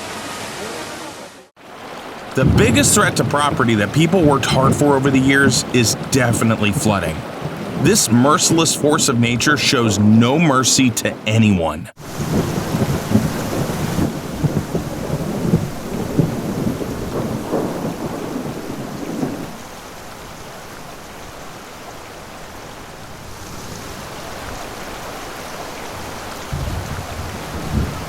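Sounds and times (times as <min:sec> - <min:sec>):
heavy rain: 0:00.0 - 0:28.0
rushing floodwater: 0:00.0 - 0:28.0.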